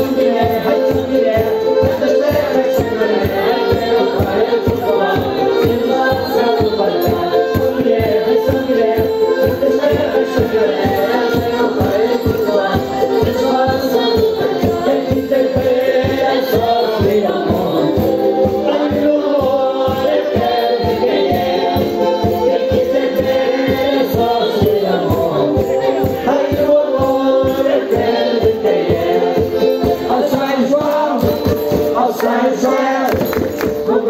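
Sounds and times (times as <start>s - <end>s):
group singing folk music: 0.0s - 34.0s.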